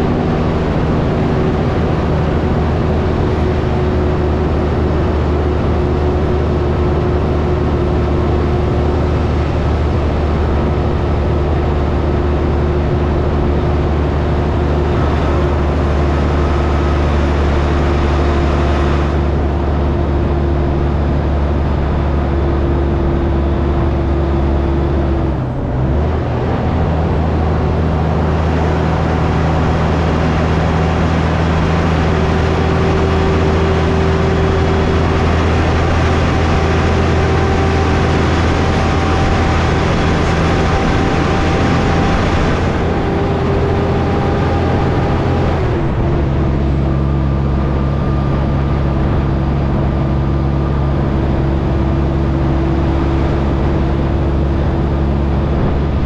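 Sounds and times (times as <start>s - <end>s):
road and wind noise: 0.0s - 56.0s
truck diesel engine running: 0.0s - 56.0s.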